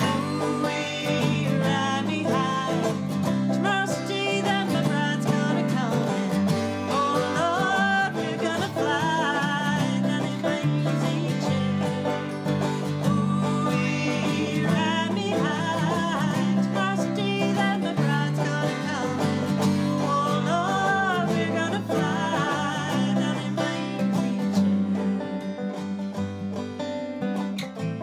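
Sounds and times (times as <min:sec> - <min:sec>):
person singing: 0:00.0 - 0:25.6
acoustic guitar: 0:00.0 - 0:28.0
banjo: 0:00.0 - 0:28.0.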